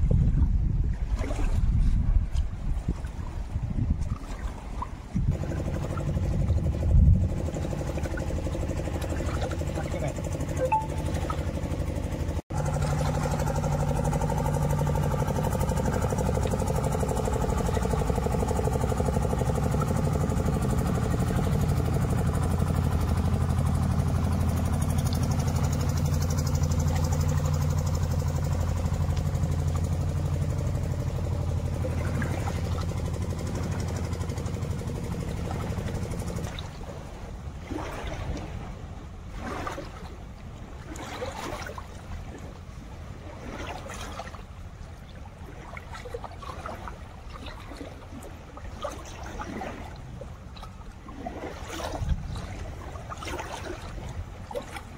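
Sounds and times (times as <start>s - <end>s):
boat engine droning: 0.0s - 54.9s
water lapping: 0.0s - 54.9s
wind: 0.0s - 54.9s.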